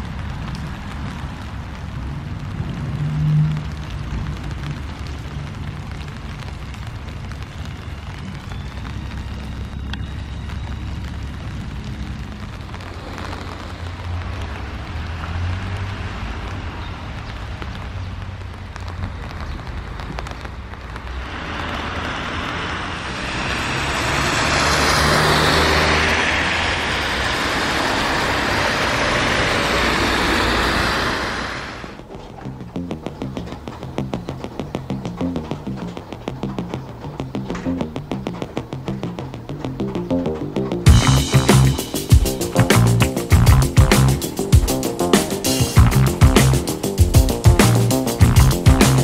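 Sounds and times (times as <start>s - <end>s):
tyre hiss on wet road: 0.0s - 32.0s, 40.9s - 49.0s
low engine rumble: 0.0s - 49.0s.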